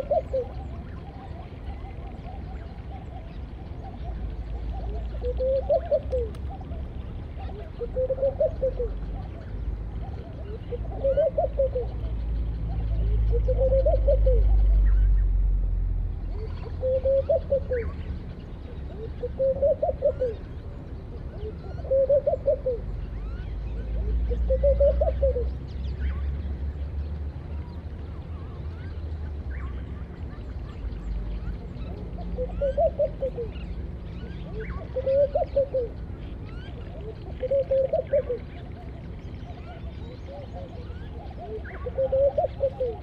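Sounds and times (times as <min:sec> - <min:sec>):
doves cooing: 0:00.0 - 0:15.1, 0:16.3 - 0:26.4, 0:27.4 - 0:43.0
small birds chirping: 0:00.0 - 0:43.0.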